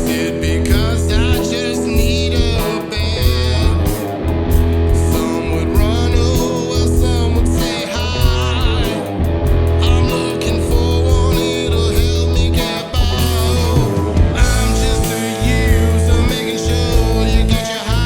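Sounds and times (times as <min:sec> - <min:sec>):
guitar: 0:00.0 - 0:18.0
high lead melody with vibrato: 0:00.0 - 0:18.0
pulsing bass line: 0:00.0 - 0:18.0.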